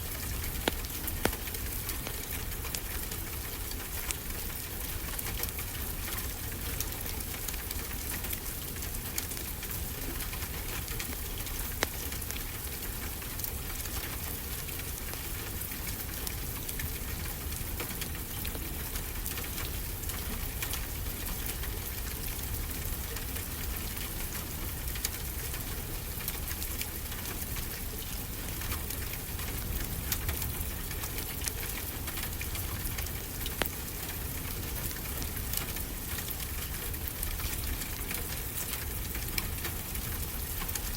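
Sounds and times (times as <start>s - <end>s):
steady rain: 0.0s - 40.9s
wood fire crackles: 0.0s - 40.9s.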